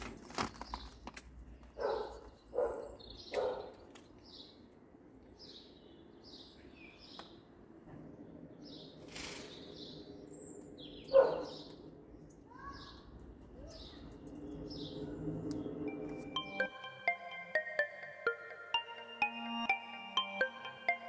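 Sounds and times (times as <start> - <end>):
birds chirping: 0.6 - 21.0.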